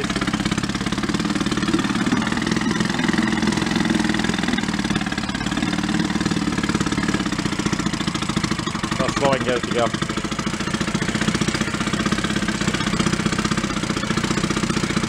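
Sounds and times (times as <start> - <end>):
outboard motor running: 0.0 - 15.0
propeller churning water: 0.0 - 15.0.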